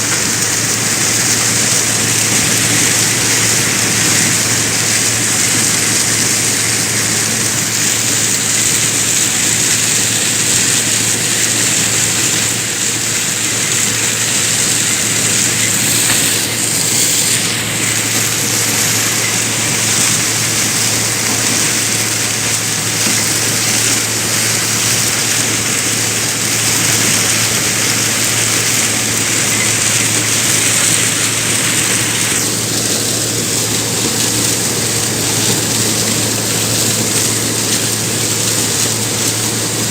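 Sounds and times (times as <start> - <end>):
thresher machine running: 0.0 - 39.9.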